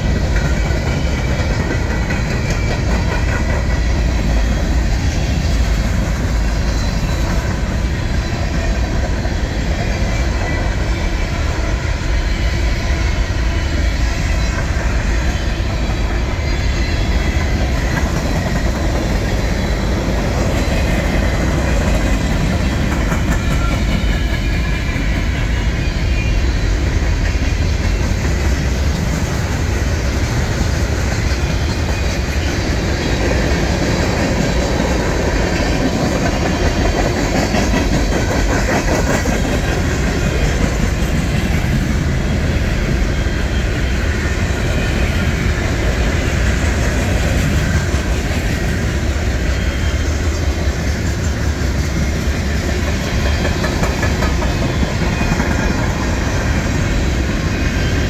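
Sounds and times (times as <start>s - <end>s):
wheels clickety-clack: 0.0s - 12.2s, 14.0s - 58.0s
steel wheels rumbling on rails: 0.0s - 58.0s.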